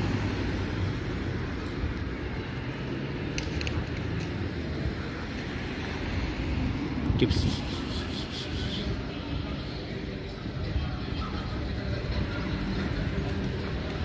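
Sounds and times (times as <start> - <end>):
distant street traffic rumble: 0.0 - 14.0.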